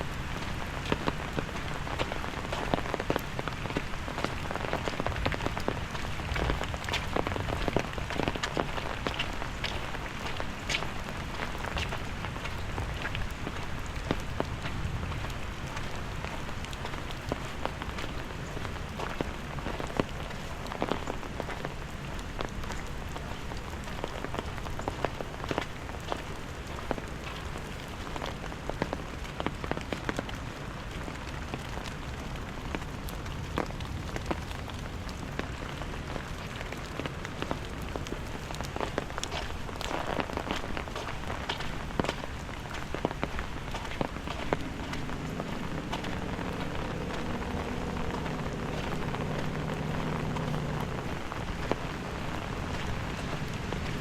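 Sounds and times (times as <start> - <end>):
steady rain falling: 0.0 - 54.0
sharp raindrop ticks: 0.1 - 54.0.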